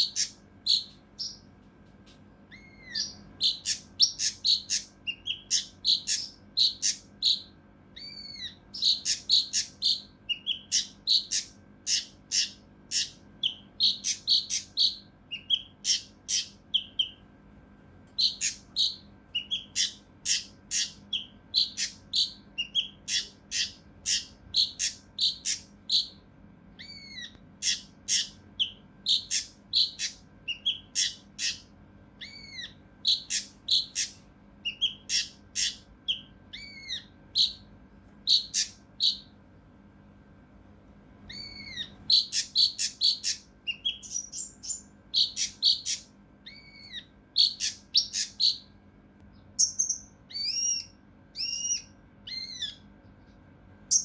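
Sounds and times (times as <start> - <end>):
bird singing harsh call notes: 0.0 - 1.4, 2.5 - 17.2, 18.2 - 26.2, 26.8 - 37.6, 38.3 - 39.3, 41.3 - 48.7, 49.6 - 52.9.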